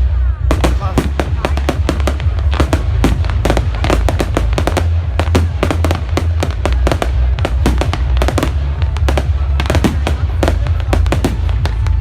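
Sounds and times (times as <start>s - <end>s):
fireworks bangs and crackles: 0.0s - 12.0s
steady low rumble: 0.0s - 12.0s.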